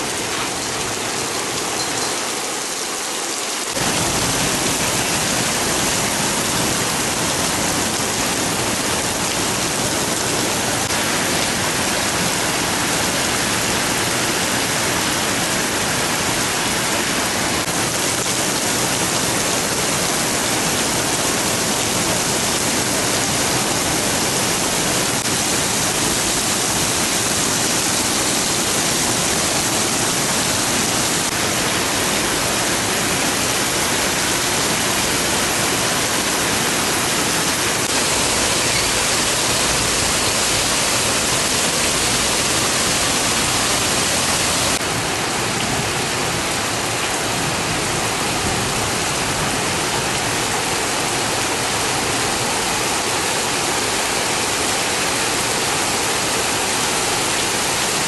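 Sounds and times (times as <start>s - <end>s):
heavy rain on a street: 0.0s - 58.0s
rainwater running over pavement: 0.0s - 58.0s.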